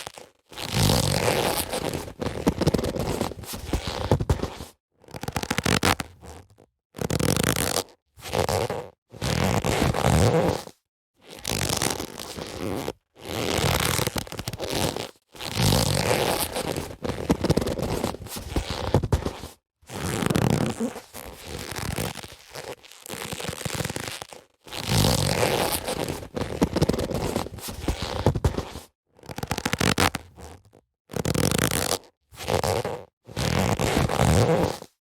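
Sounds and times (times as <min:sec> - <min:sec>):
leather gloves rubbing and scuffing: 0:00.0 - 0:06.4, 0:07.0 - 0:35.0.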